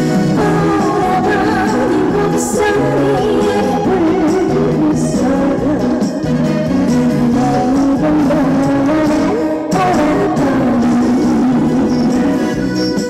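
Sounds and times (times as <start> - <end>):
trot song over loudspeakers: 0.0 - 13.0.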